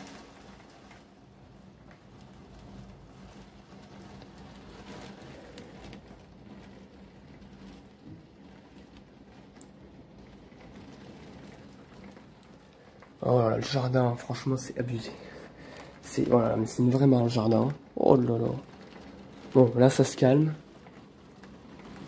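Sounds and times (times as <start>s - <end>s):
heavy rain falling: 0.0s - 22.0s
raindrops pattering on window: 0.0s - 22.0s.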